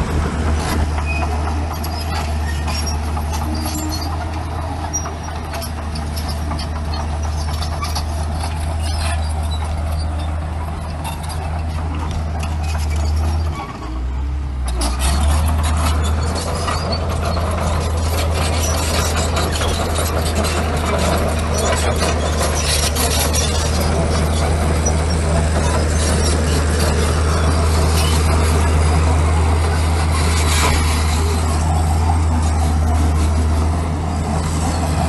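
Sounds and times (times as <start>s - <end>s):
bulldozer diesel engine: 0.0s - 35.0s.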